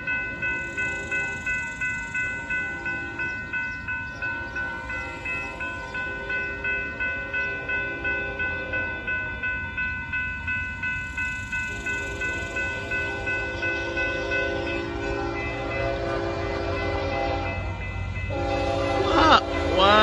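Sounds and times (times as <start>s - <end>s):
approaching train rumble: 0.0s - 20.0s
railroad crossing bell ringing: 0.0s - 20.0s.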